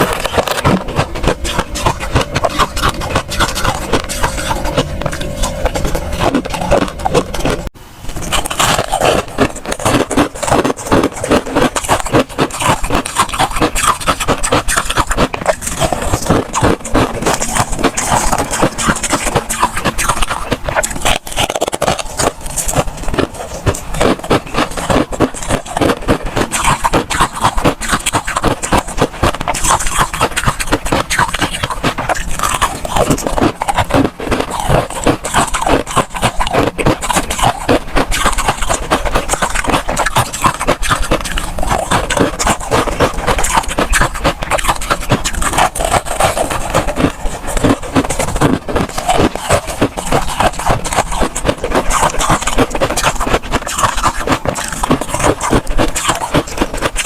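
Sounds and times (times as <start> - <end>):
frost crunching: 0.0 - 57.0.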